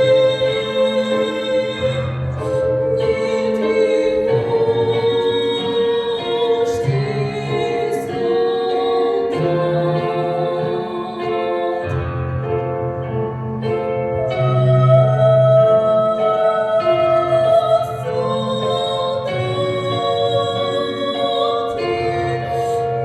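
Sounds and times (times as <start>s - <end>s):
woman singing slow song: 0.0s - 12.5s, 13.6s - 23.0s
instrumental accompaniment: 0.0s - 23.0s.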